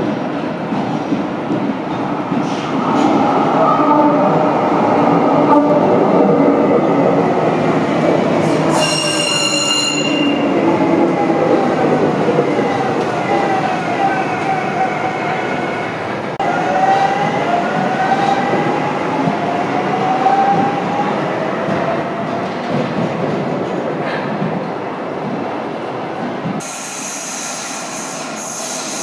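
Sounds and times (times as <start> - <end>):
tram wheels rumbling on rail: 0.0 - 29.0.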